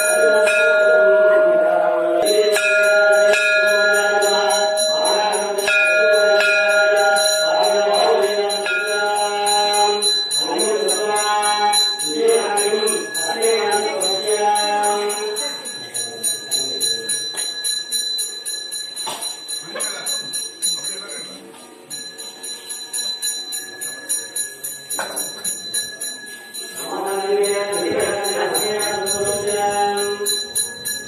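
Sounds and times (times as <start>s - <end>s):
ringing bell tone: 0.0s - 31.0s.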